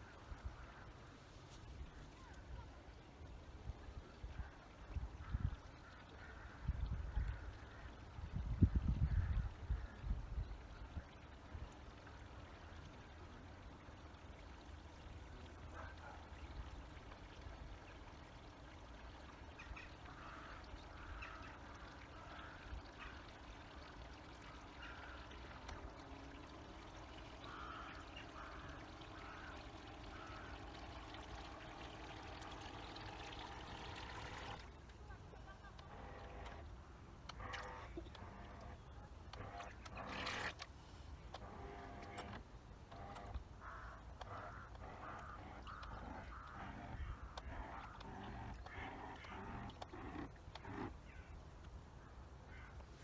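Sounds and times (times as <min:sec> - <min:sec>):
faint motor hum: 0:00.0 - 0:53.0
water sounds: 0:00.0 - 0:53.0
wind: 0:00.0 - 0:53.0.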